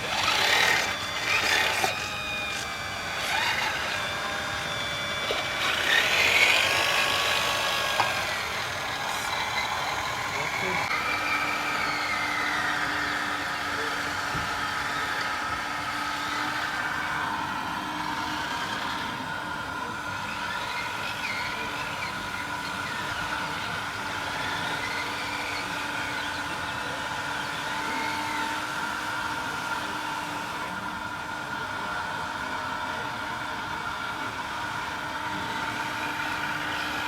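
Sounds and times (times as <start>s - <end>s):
model vehicle motor whine: 0.0s - 37.0s.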